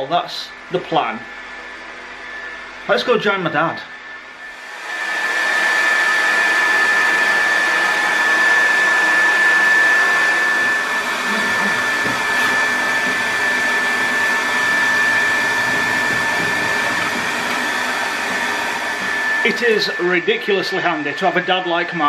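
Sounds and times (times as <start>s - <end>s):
hair dryer running: 0.4s - 22.0s.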